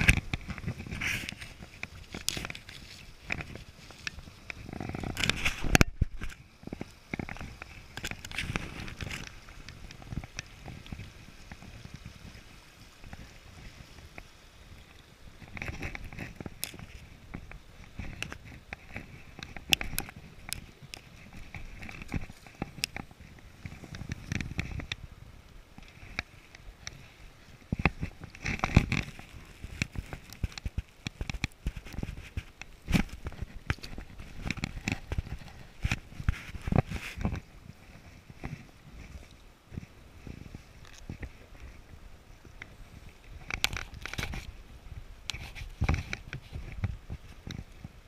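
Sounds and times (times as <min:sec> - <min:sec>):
river water sloshing and splashing: 0:00.0 - 0:48.0
rush of rapids: 0:00.0 - 0:48.0.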